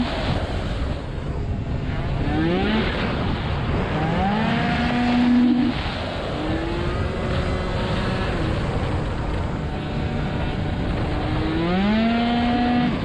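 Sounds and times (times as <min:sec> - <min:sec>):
two-stroke scooter engine accelerating: 0:00.0 - 0:13.0
wind on microphone: 0:00.0 - 0:13.0.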